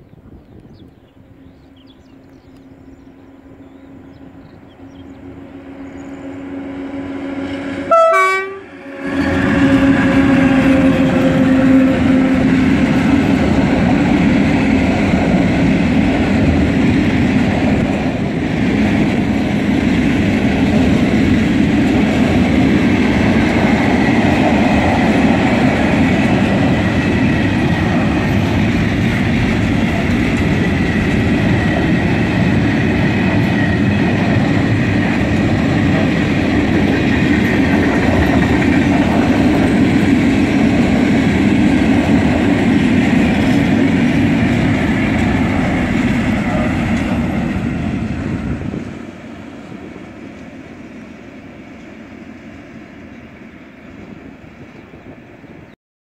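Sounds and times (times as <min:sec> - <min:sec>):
freight train wheels rumbling on rail: 0:00.0 - 0:55.7.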